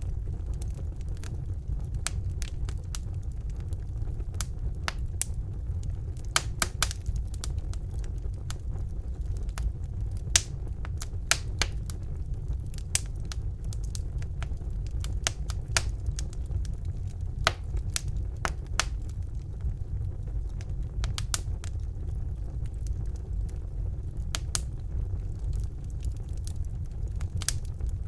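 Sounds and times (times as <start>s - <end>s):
fire crackling and popping: 0.0s - 28.0s
low rumble of flames: 0.0s - 28.0s.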